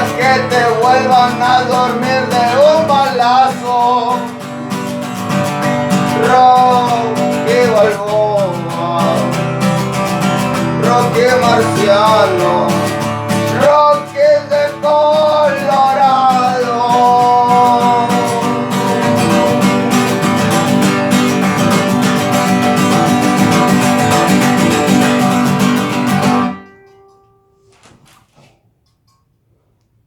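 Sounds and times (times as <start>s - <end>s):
country song on acoustic guitar: 0.0s - 27.1s.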